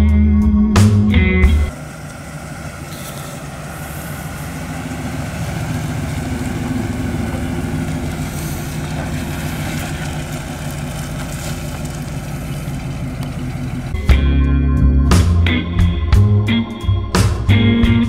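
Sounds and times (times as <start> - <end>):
truck engine driving off: 0.0 - 18.0.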